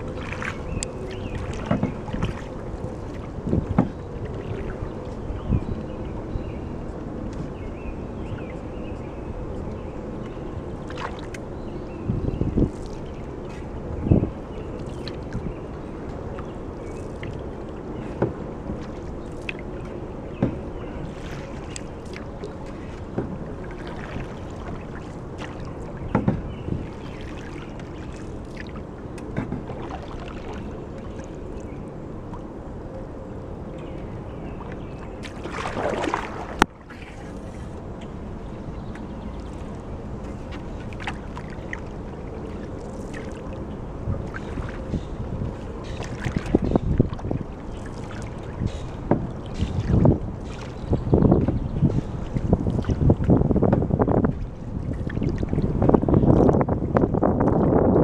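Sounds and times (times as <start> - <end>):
paddle strokes in water: 0.0 - 58.0.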